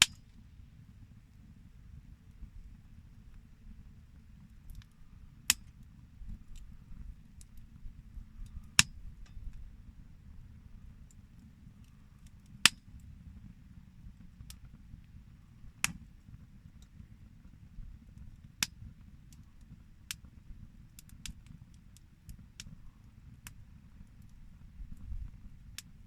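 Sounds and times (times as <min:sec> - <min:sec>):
low steady rumble: 0:00.0 - 0:26.0
wood fire crackling and popping: 0:00.0 - 0:26.0.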